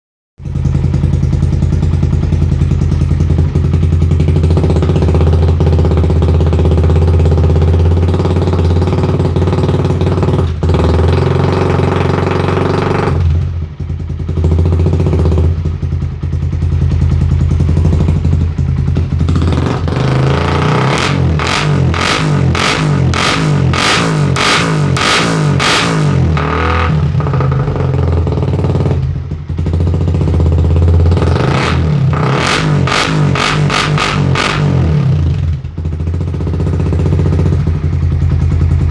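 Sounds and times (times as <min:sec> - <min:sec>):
motorcycle engine loud exhaust: 0:00.4 - 0:38.9.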